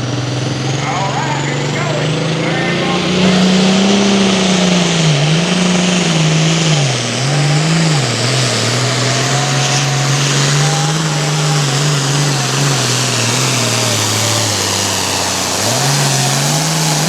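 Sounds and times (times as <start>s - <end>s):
tractor diesel engine revving high: 0.0s - 17.0s.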